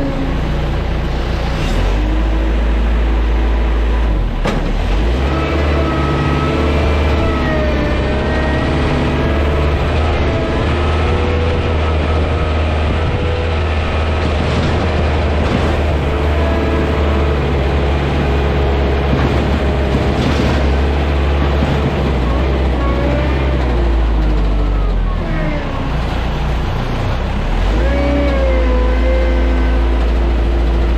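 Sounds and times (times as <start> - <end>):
loud low engine drone: 0.0 - 30.9.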